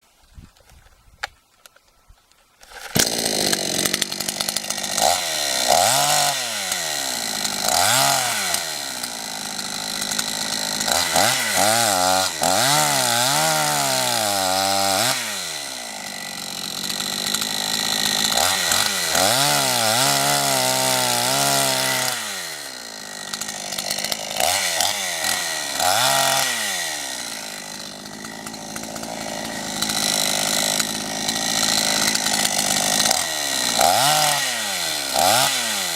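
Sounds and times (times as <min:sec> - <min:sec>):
chainsaw revving: 0:02.6 - 0:35.9.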